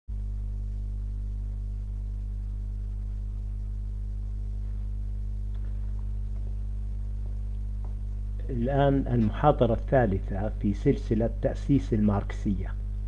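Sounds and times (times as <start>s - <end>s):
low electrical hum: 0.1s - 13.0s.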